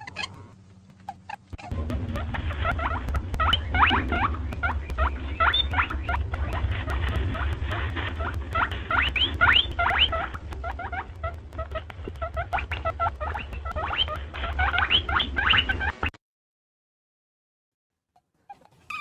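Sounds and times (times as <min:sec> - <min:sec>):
rabbit squeaking: 0:00.0 - 0:16.1, 0:18.4 - 0:19.0
steady low hum: 0:00.0 - 0:16.1.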